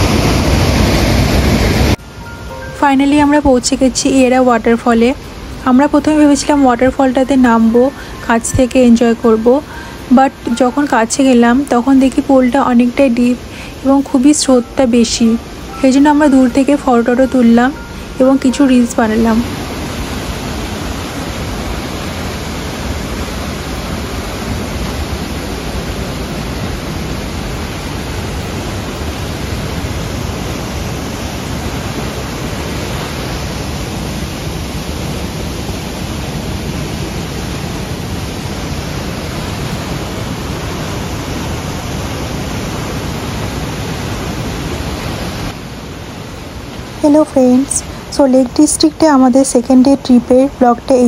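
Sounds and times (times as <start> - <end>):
waterfall roaring: 0.0 - 51.0.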